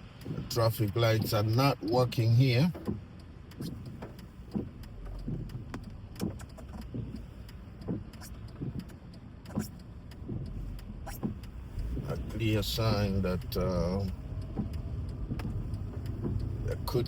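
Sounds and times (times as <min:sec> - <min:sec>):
car rumble from inside: 0:00.0 - 0:17.0.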